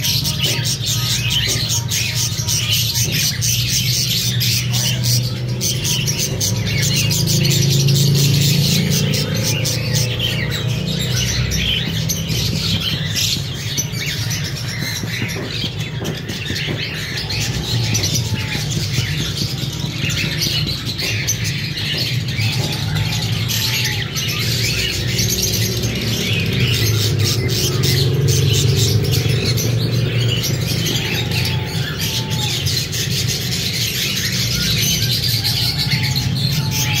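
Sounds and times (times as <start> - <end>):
parrots chattering and squawking: 0.0 - 37.0.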